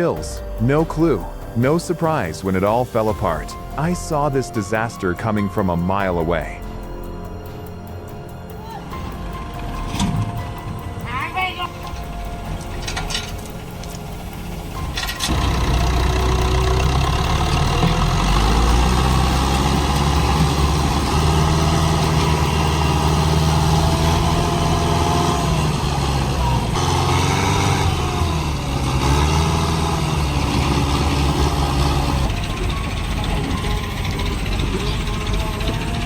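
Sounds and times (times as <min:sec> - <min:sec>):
tractor engine revving: 0:00.0 - 0:36.0.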